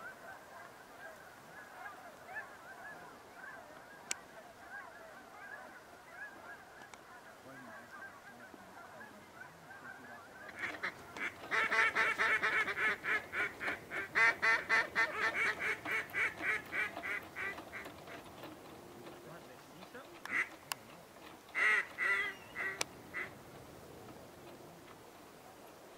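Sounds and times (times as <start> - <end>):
geese honking: 0.0 - 23.4.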